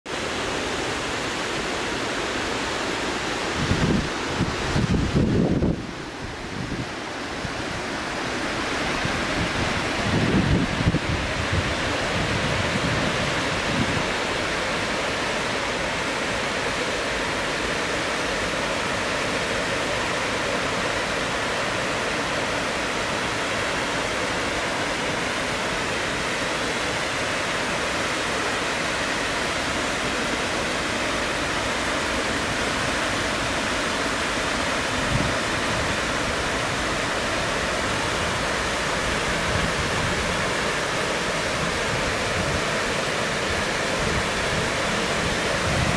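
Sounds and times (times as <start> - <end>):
water rushing over a weir: 0.1 - 45.9.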